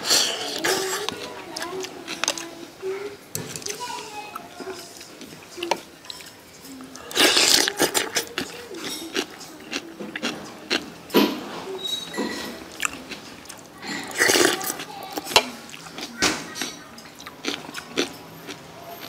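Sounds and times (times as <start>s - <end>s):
noisy eating: 0.0s - 19.0s.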